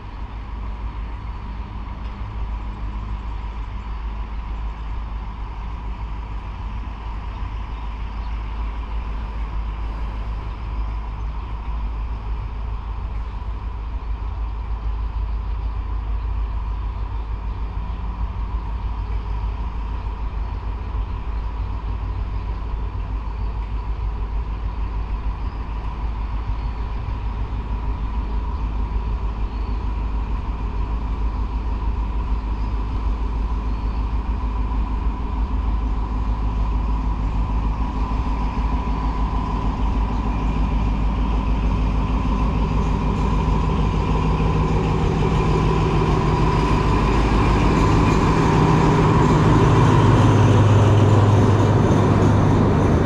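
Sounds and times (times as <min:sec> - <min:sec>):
diesel train engine rumble: 0:00.0 - 0:53.0
thin steady whine: 0:00.0 - 0:53.0.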